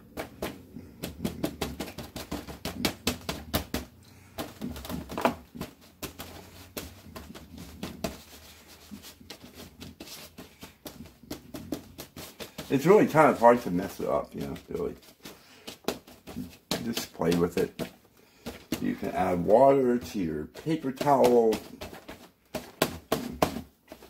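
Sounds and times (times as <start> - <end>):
paper towel dabbing paint: 0.0 - 24.0.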